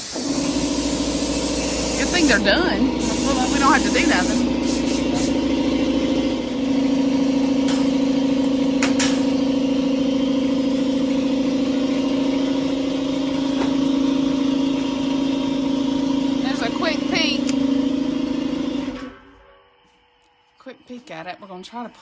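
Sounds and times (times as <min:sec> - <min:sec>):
motor droning: 0:00.0 - 0:19.8.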